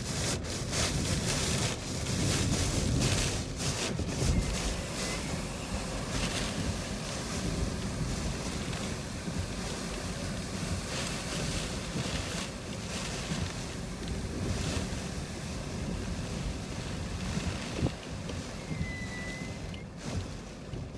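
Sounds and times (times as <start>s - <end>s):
wind roaring and buffeting microphone: 0.0s - 20.9s.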